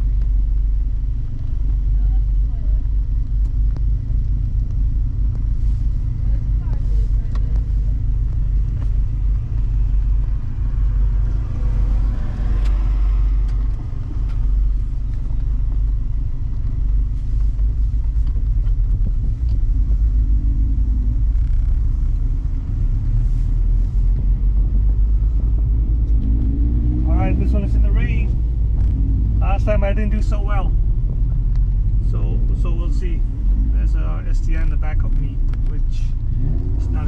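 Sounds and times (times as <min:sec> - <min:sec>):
car engine running from inside cabin: 0:00.0 - 0:37.0.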